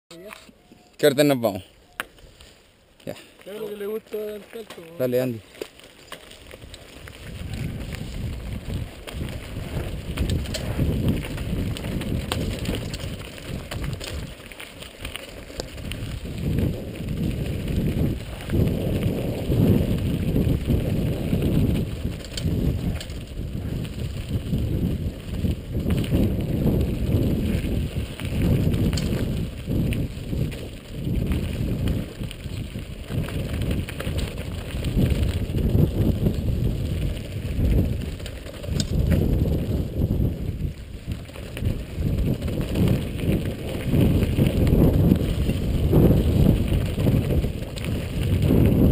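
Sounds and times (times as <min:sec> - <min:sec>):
bike rattling over gravel: 0:01.1 - 0:48.9
wind rushing over microphone: 0:06.6 - 0:14.4, 0:15.0 - 0:48.9.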